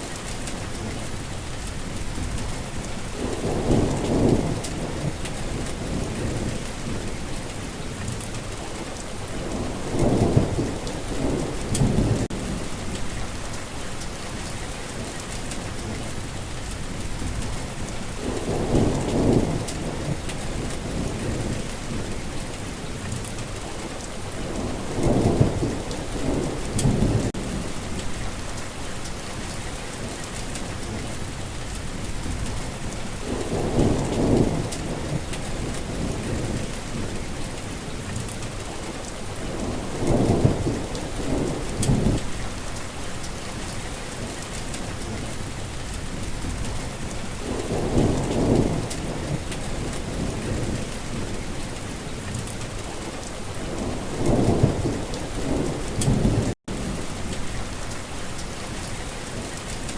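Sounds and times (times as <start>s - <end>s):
heavy rain: 0.0s - 59.9s
thunder rumbling: 0.4s - 59.9s.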